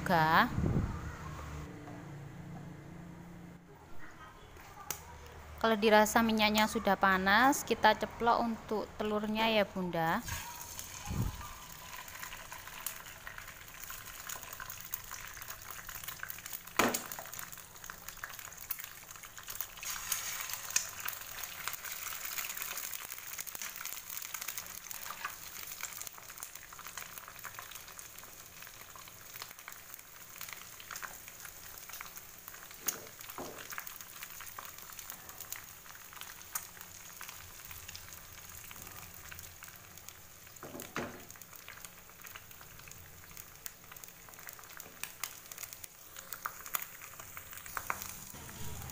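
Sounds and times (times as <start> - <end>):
eggs sizzling in hot oil: 5.8 - 48.9.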